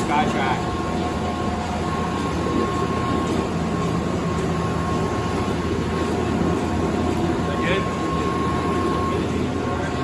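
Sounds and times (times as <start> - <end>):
constant mechanical whine: 0.0 - 10.0.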